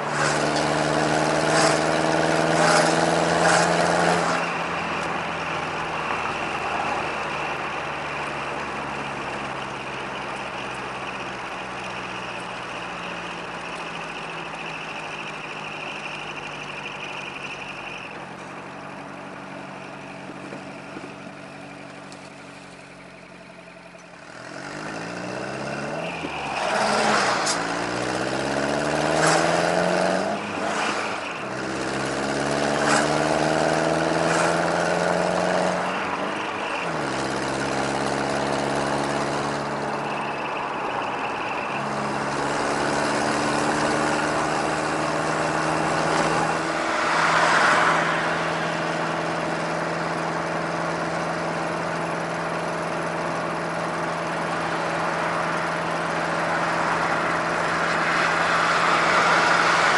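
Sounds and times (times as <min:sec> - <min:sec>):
truck engine accelerating: 0:00.0 - 0:59.9.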